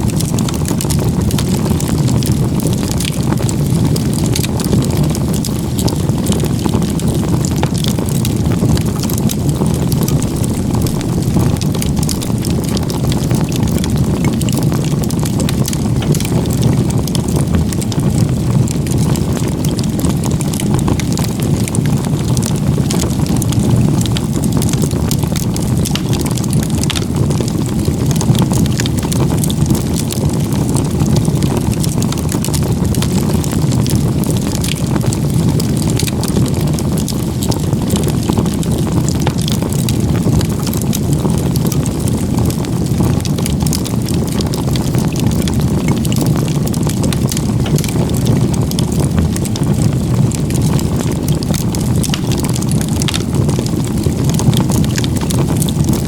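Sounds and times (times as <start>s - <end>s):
campfire flames rushing: 0.0s - 56.0s
wood crackling and popping: 0.0s - 56.0s.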